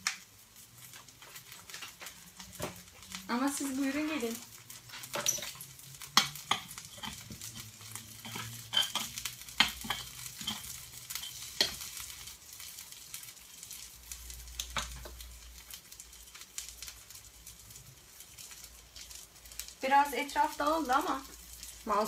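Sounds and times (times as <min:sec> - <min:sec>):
food sizzling in metal tray: 0:00.0 - 0:22.0
sharp crackles: 0:00.0 - 0:22.0.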